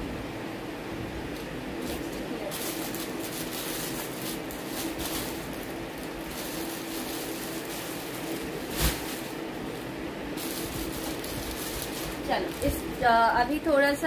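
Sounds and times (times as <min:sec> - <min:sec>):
electric fan humming: 0:00.0 - 0:14.0
cloth rustling: 0:01.4 - 0:13.0.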